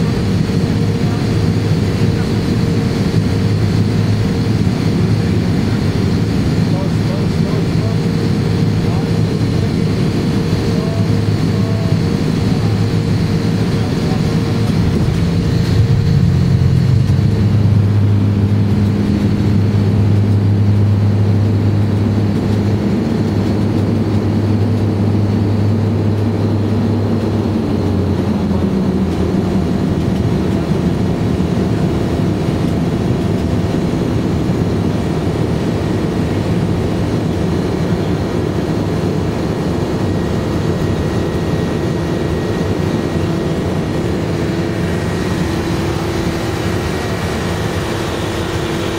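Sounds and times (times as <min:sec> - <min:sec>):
turboprop engines droning: 0:00.0 - 0:48.9.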